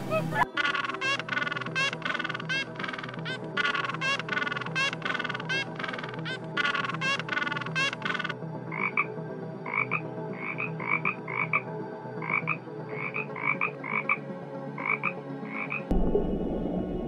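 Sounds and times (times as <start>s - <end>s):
frog croaking: 0.3s - 14.2s, 14.8s - 15.9s.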